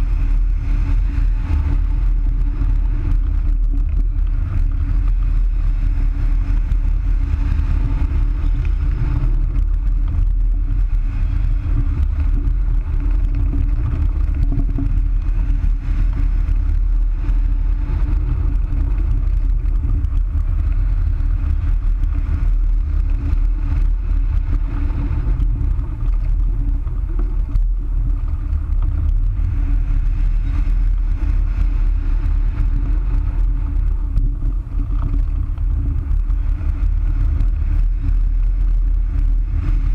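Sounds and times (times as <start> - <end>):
steady hum: 0.0 - 39.9
wind buffeting microphone: 0.0 - 39.9.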